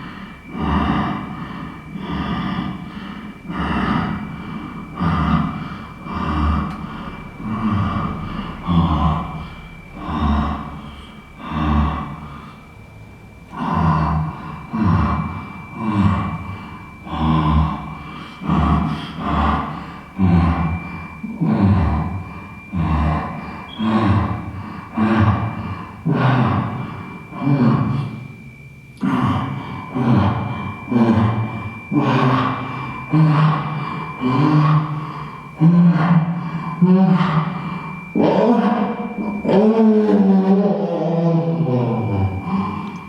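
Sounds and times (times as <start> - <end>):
faint high-pitched tone: 0.0 - 43.0
person breathing heavily: 0.0 - 43.0.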